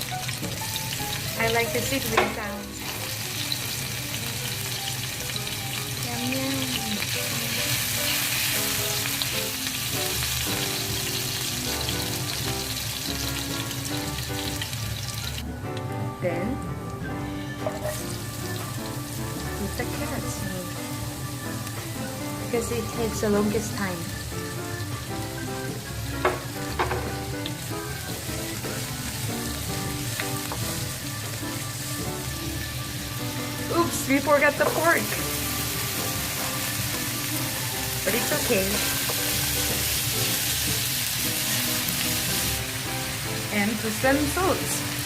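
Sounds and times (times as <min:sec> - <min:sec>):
background music: 0:00.0 - 0:45.0
garlic sizzling in hot oil: 0:00.0 - 0:45.0.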